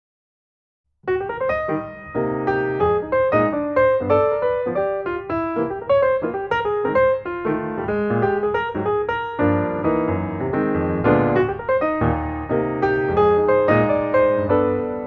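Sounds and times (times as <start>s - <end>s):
piano music: 1.0s - 15.0s.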